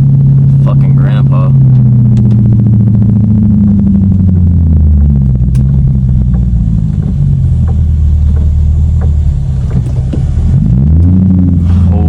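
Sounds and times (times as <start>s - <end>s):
car engine droning while driving: 0.0s - 12.0s.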